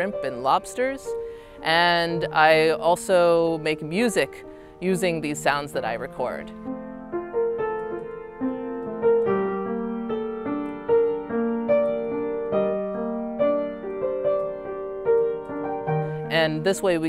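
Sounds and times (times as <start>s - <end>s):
slow piano piece: 0.0s - 17.0s.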